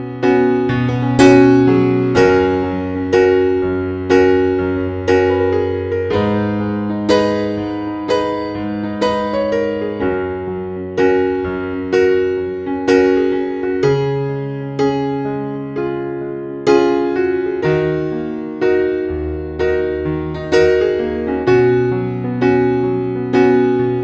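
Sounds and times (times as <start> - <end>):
electric piano chords: 0.0 - 24.0.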